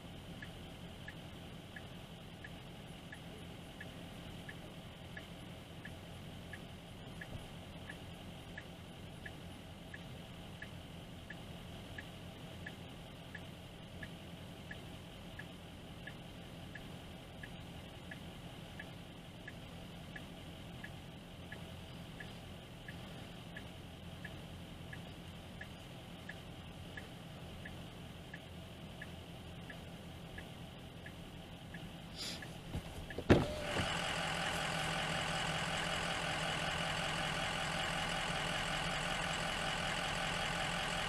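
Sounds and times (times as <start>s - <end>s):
car engine idling: 0.0s - 41.0s
turn signal clicking: 0.4s - 41.0s.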